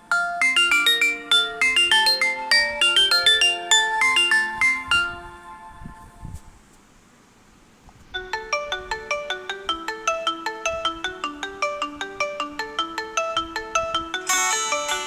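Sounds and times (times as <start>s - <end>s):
phone ringtone melody: 0.0s - 6.0s, 8.2s - 15.0s.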